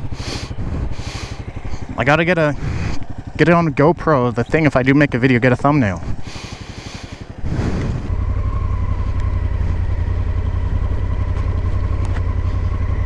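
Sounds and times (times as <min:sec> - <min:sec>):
motorcycle engine revving: 0:00.0 - 0:13.0
thin steady whine: 0:00.0 - 0:13.0.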